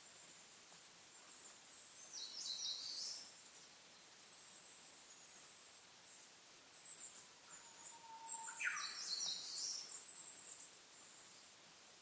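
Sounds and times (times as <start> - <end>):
faint outdoor hiss: 0.0 - 12.0
small birds chirping: 0.0 - 12.0.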